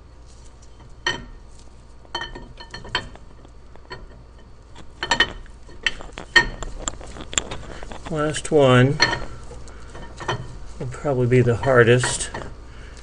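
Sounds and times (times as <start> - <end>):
metal parts clinking: 2.1 - 12.6.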